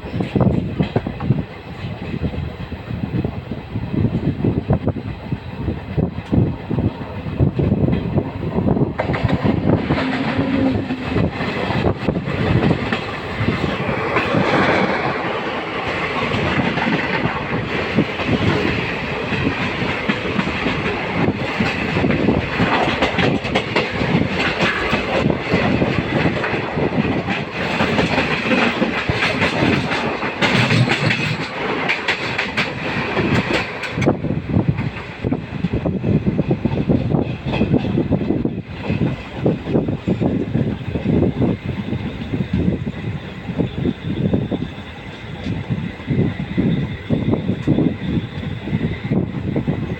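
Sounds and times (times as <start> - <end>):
train coach rumble: 0.0 - 49.9.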